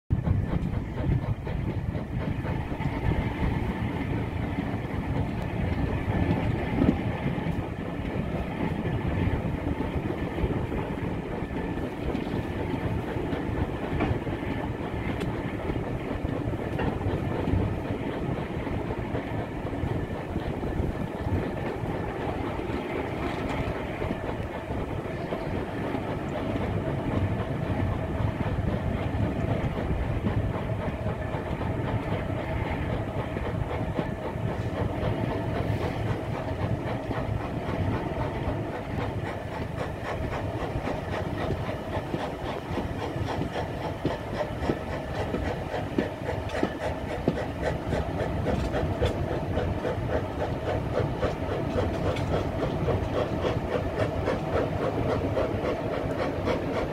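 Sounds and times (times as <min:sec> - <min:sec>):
clickety-clack of rail joints: 0:00.1 - 0:56.9
train wheels rumbling on rail: 0:00.1 - 0:56.9.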